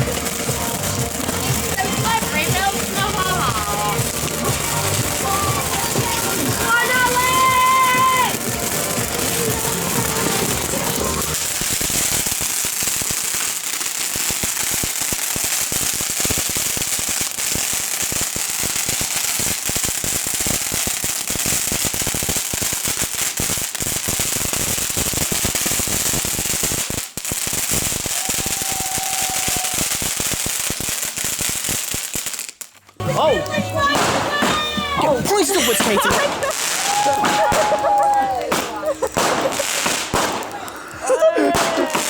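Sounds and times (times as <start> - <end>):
firework crackling: 0.0 - 42.0.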